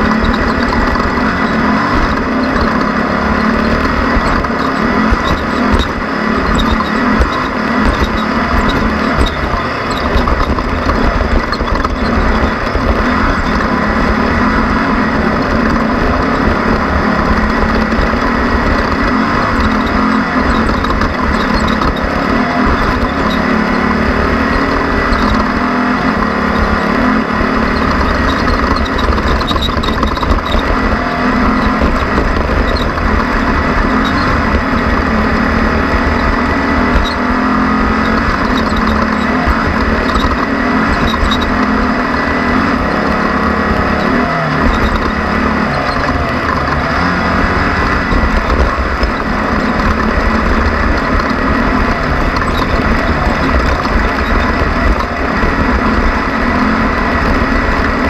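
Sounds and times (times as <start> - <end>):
driving noise: 0.0 - 58.0
engine running hard: 0.0 - 58.0.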